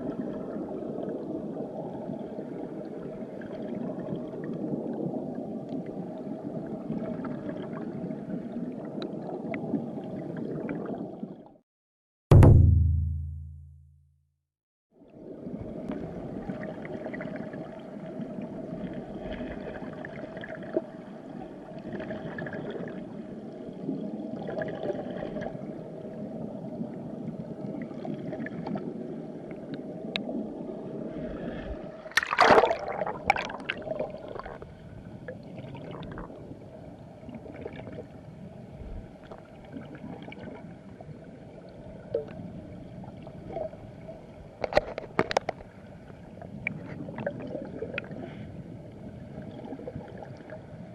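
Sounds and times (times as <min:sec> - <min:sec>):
underwater river current gurgling: 0:00.0 - 0:11.6, 0:15.0 - 0:50.9.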